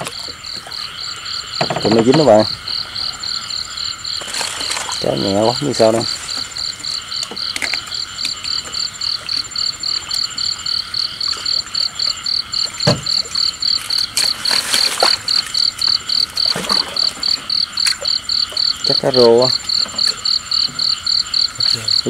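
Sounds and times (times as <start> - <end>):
continuous insect trill: 0.0 - 22.0
rapid pulsing frog call: 0.0 - 22.0.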